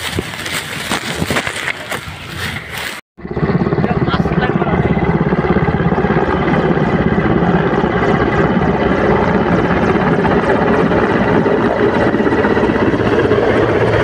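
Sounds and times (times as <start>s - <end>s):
helicopter rotor chopping: 0.0s - 14.0s
high turbine whine: 0.0s - 14.0s.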